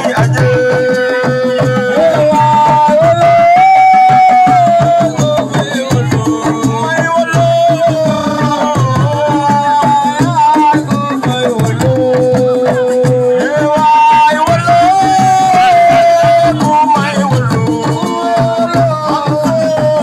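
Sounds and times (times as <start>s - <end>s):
fast hand-drum percussion: 0.0s - 20.0s.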